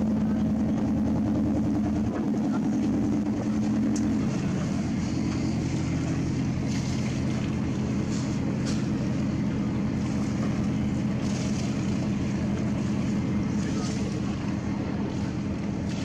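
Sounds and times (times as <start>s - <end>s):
ship engine humming: 0.0s - 16.0s.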